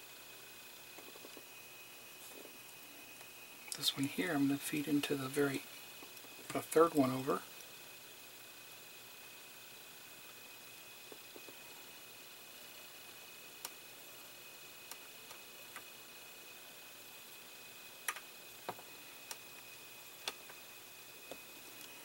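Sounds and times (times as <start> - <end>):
faint hiss: 0.0 - 22.0.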